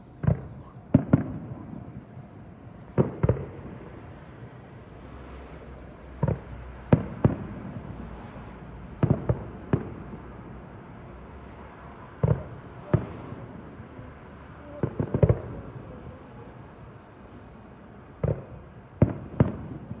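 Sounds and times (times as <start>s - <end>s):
fireworks bangs: 0.0s - 10.8s, 11.6s - 20.0s.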